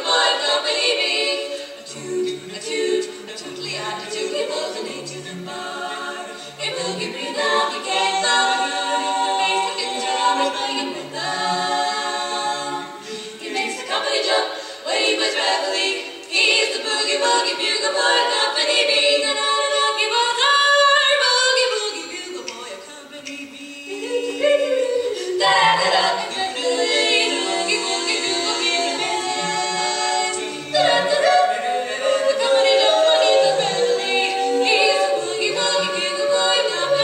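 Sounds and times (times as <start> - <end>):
women singing a cappella harmony: 0.0 - 37.0.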